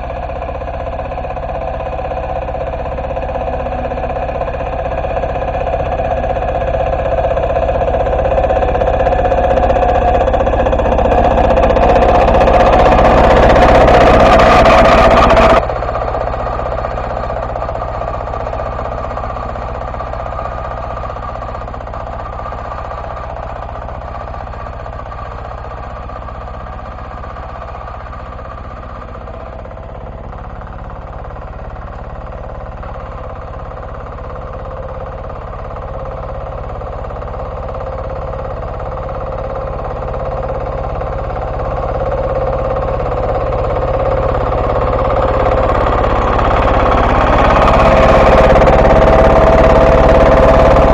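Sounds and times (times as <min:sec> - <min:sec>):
walk-behind tractor diesel engine: 0:00.0 - 0:50.9.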